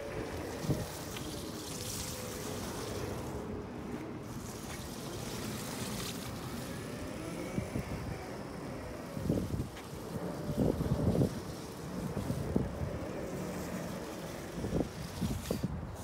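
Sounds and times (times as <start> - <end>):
electric motors whining: 0.0 - 16.0
wind on microphone: 0.0 - 16.0.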